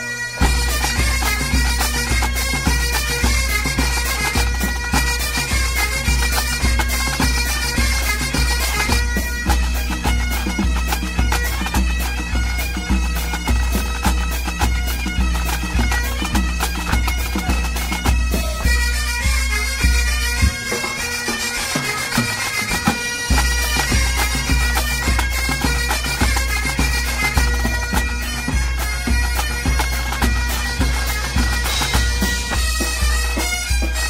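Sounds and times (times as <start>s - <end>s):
bagpipes and bombardes playing: 0.0s - 34.0s.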